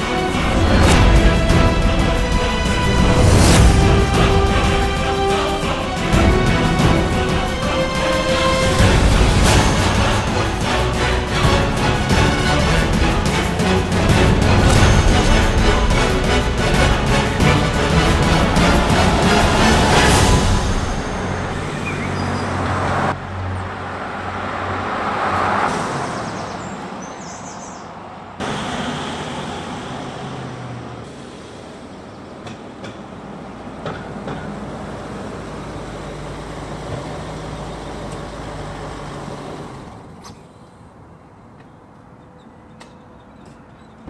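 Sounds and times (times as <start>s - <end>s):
motor vehicle running: 0.0s - 26.8s, 28.4s - 40.4s
road and traffic noise: 0.0s - 44.0s.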